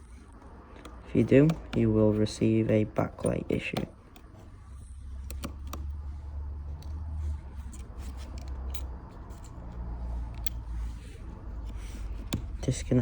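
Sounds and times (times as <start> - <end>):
low steady hum: 0.0 - 13.0
small tool clicks and taps: 0.3 - 6.1, 6.7 - 10.8, 11.6 - 12.6.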